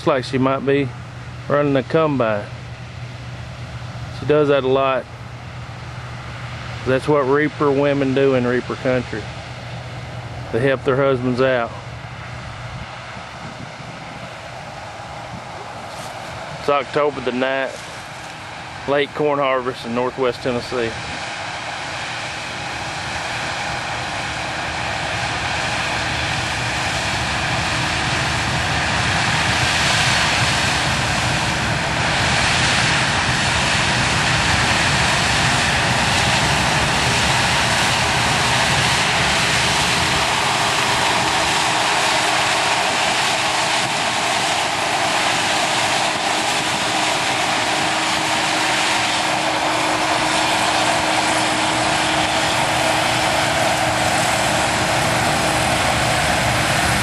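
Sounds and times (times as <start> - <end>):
combine harvester drone: 0.0 - 57.0.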